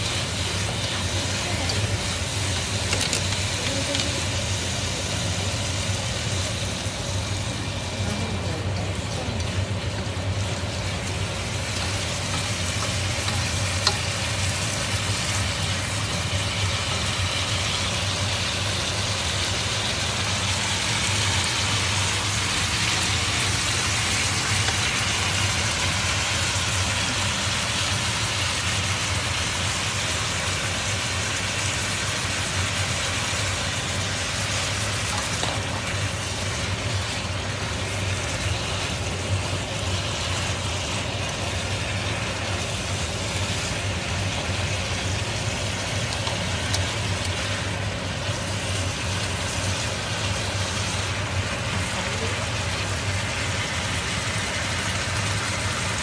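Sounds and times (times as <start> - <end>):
meat sizzling in a wok: 0.0 - 56.0.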